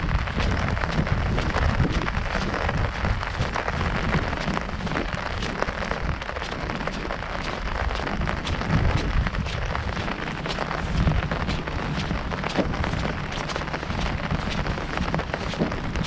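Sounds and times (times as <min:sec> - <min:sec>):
heavy rain on an umbrella: 0:00.0 - 0:16.0.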